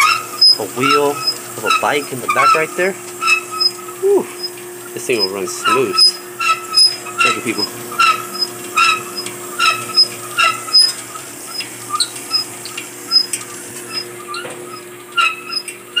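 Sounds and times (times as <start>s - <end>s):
high squeak: 0.0s - 12.5s, 13.9s - 16.0s
motor humming: 0.0s - 16.0s.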